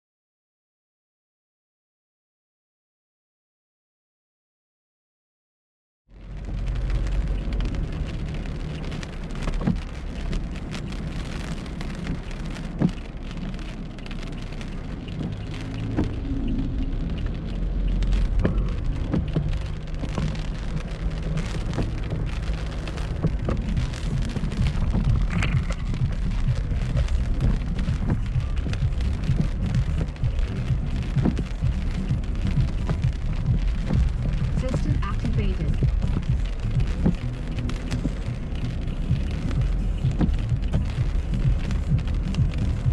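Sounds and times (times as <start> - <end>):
heavy rain: 6.1 - 42.9
low rumble: 6.1 - 42.9
wind: 6.1 - 42.9.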